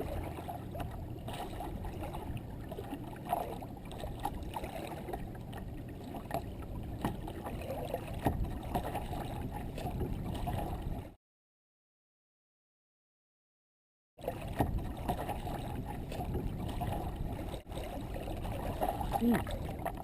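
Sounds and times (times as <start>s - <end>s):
water lapping against kayak hull: 0.0s - 11.2s, 14.2s - 20.0s.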